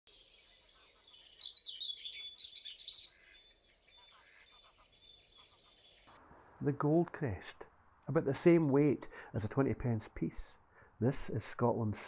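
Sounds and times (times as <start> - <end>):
songbirds chirping: 0.1 - 12.0.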